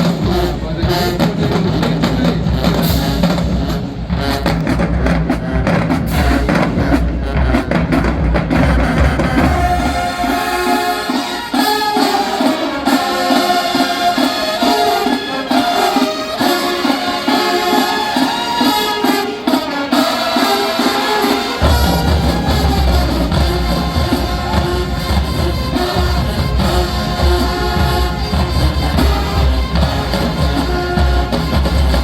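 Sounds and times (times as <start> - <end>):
marching band playing: 0.0 - 32.0
steady drumbeat: 0.0 - 32.0.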